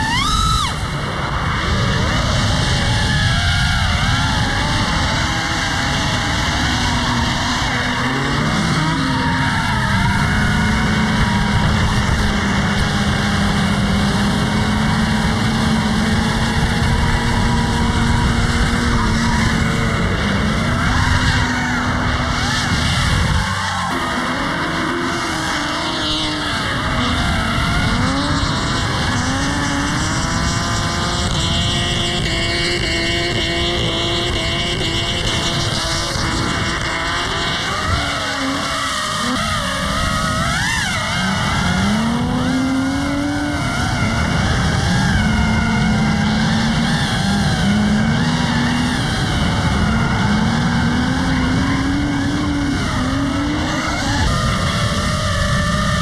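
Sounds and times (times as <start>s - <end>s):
tyre screech: 0.0s - 55.8s
car engines revving hard: 0.0s - 56.0s.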